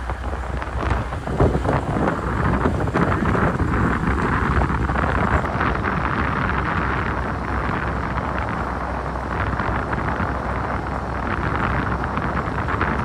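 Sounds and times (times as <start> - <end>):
vehicle road noise: 0.0 - 13.0
wind rushing over microphone: 0.0 - 13.0.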